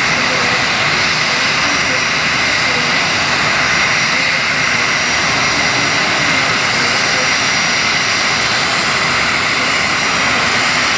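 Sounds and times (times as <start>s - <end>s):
jet engines idling: 0.0s - 10.9s.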